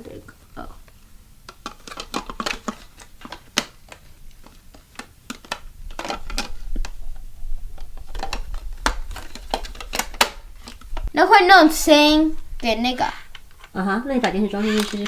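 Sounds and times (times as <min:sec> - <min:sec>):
plastic parts clicking and clattering: 0:00.8 - 0:11.1, 0:12.6 - 0:15.0.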